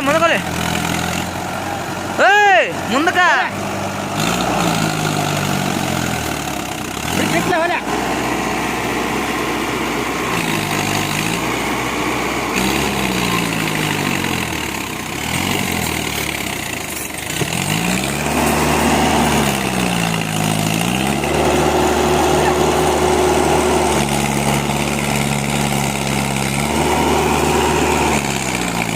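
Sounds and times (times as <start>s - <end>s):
diesel tractor engine revving: 0.0s - 28.9s.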